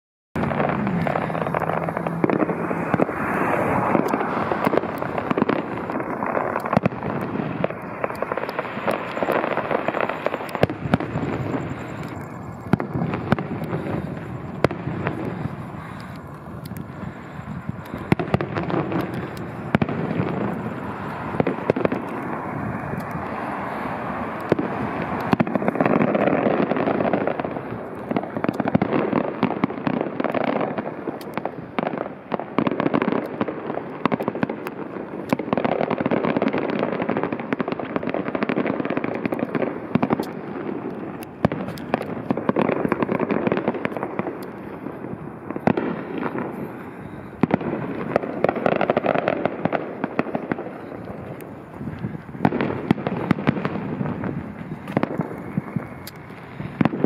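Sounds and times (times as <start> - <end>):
fireworks booming: 0.4 - 57.0
fireworks cracking and crackling: 0.4 - 57.0.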